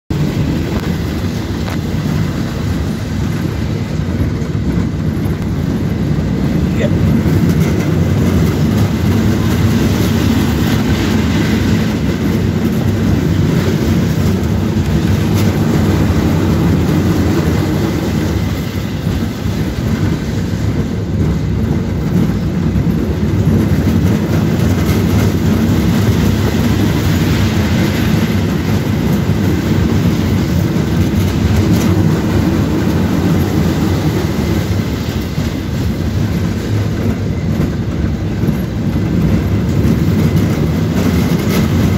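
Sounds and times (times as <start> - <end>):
roller coaster wheels rumbling: 0.1 - 41.9.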